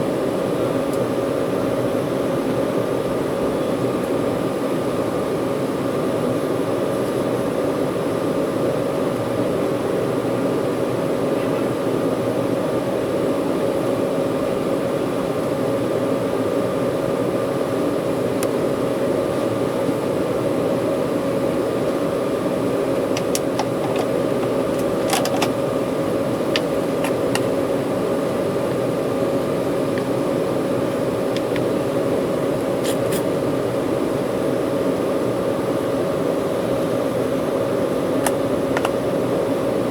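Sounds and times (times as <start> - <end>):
airliner cabin engine roar: 0.0 - 39.9.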